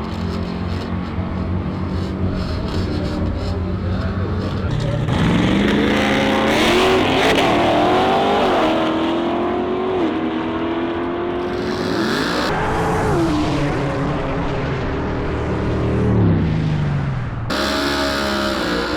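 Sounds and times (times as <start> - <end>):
drag car engine accelerating: 0.0 - 18.9.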